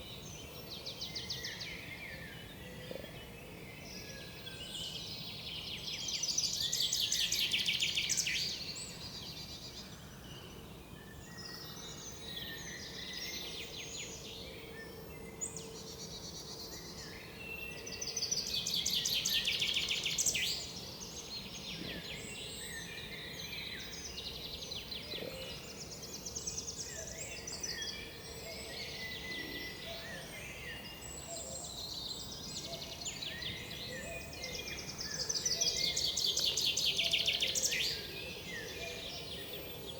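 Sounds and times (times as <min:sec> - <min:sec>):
songbirds calling and singing: 0:00.0 - 0:39.9.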